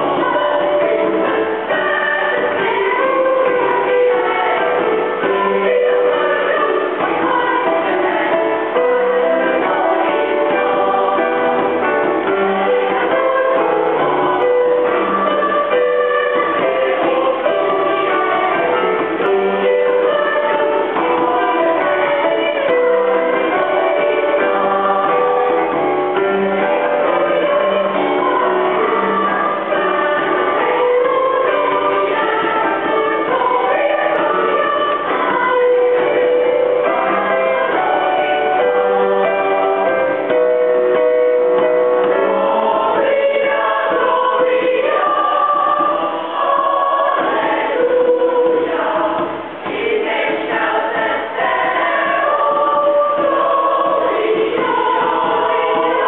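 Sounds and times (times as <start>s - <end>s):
children's choir singing: 0.0s - 56.0s.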